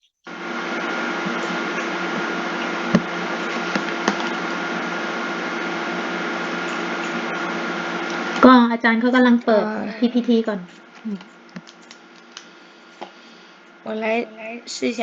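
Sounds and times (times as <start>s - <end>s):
motor whirring with hum: 0.3s - 12.9s.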